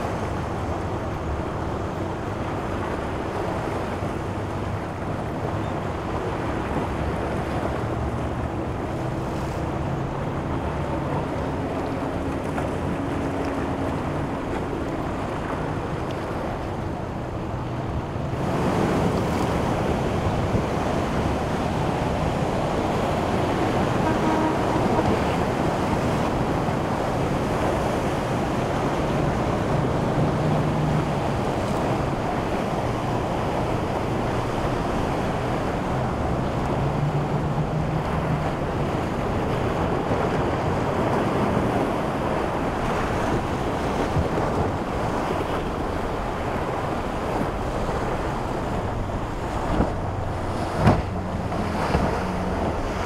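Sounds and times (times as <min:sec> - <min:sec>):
faint boat engine hum: 0:00.0 - 0:53.0
waves churning: 0:00.0 - 0:53.0.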